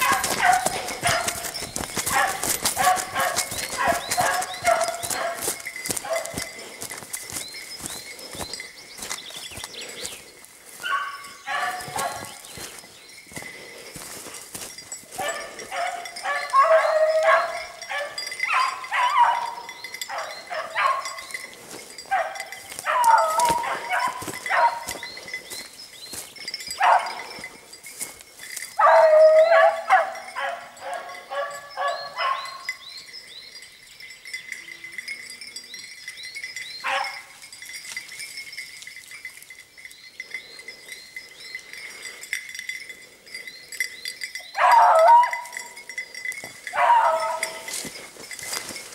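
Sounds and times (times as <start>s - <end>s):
hounds baying: 0.0s - 33.6s, 34.5s - 38.2s, 40.0s - 48.9s.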